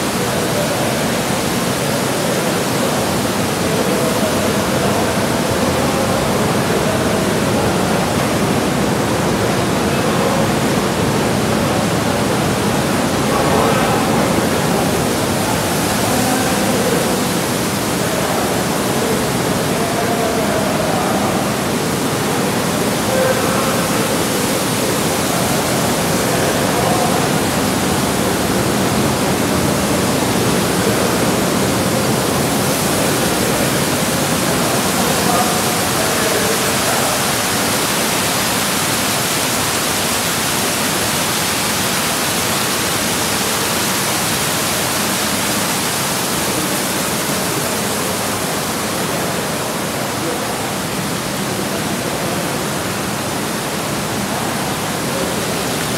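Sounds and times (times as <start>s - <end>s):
water pouring into pools: 0.0s - 55.9s.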